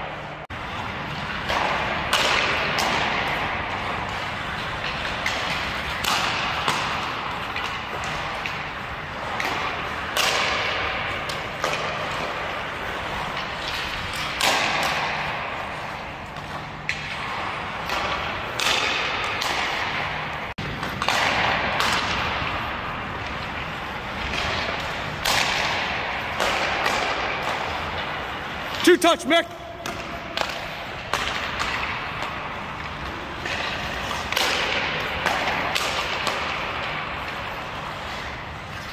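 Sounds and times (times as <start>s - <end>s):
skate blades scraping ice: 0.0s - 38.9s.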